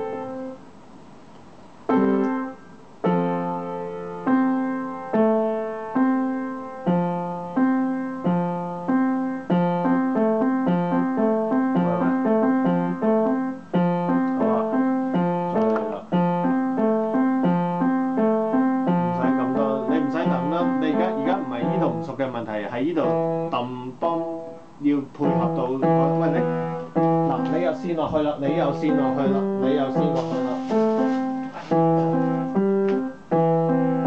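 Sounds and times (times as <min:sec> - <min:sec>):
upright piano playing: 0:00.0 - 0:01.0, 0:01.7 - 0:34.0.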